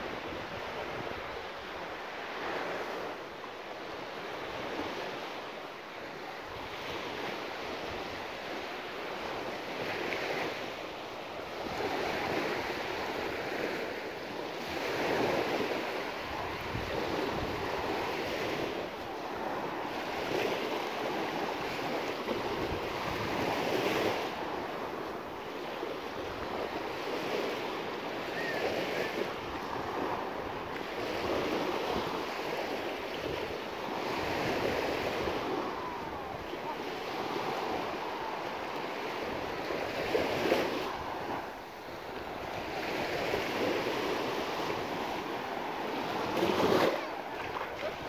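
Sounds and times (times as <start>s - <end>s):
small waves washing onto beach: 0.0s - 48.0s.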